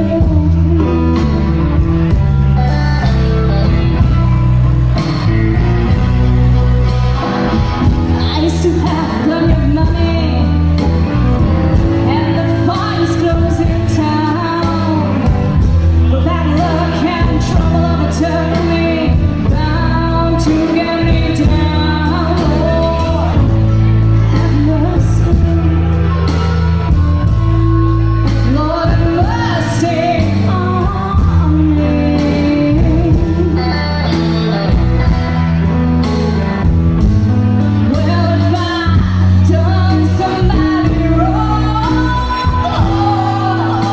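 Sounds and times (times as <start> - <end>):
person singing: 0.0 - 36.6, 37.7 - 43.9
blues band playing: 0.0 - 43.9.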